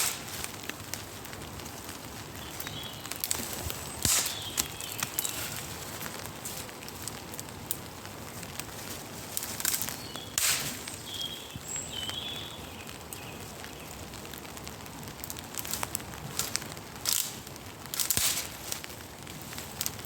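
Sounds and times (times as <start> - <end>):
twigs and leaves rustling underfoot: 0.0 - 20.0.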